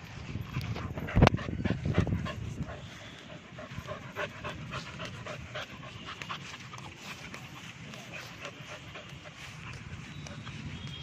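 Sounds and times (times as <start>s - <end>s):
dog panting: 0.3s - 11.0s.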